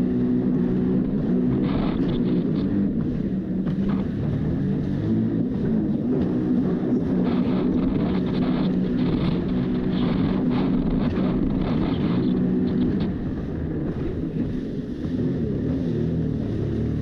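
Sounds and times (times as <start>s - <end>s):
jet ski engine running: 0.0s - 17.0s.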